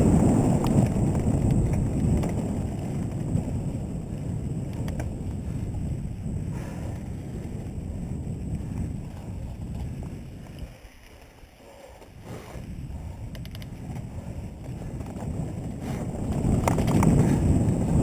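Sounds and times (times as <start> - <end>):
bike rattling: 0.0 - 18.0
bike tyres rumbling on dirt: 0.0 - 18.0
wind buffeting microphone: 0.0 - 18.0.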